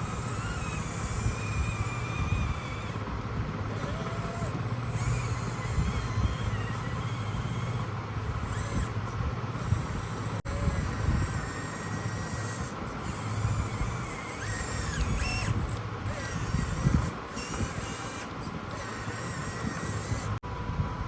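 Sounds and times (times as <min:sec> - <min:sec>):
toy truck motor and gears whirring: 0:00.0 - 0:20.4.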